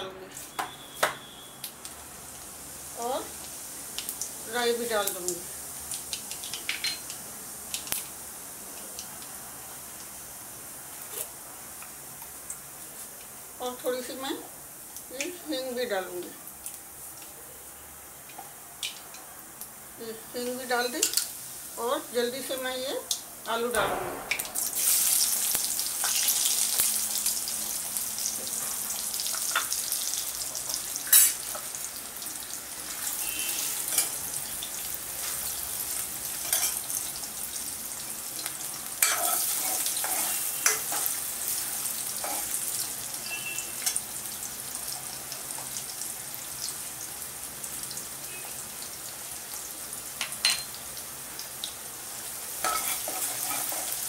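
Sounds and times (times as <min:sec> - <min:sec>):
potatoes sizzling in hot oil: 0:01.7 - 0:23.8, 0:24.4 - 0:54.0.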